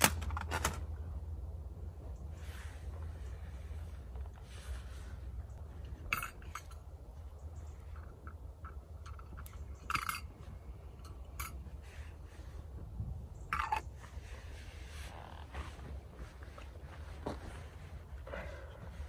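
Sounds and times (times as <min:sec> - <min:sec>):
steady low rumble: 0:00.2 - 0:19.0.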